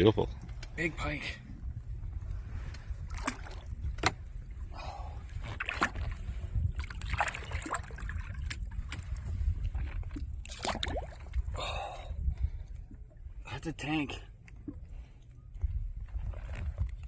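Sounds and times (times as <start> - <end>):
steady low rumble: 0.0 - 17.0
water sloshing and splashing: 2.1 - 13.5, 14.1 - 17.0.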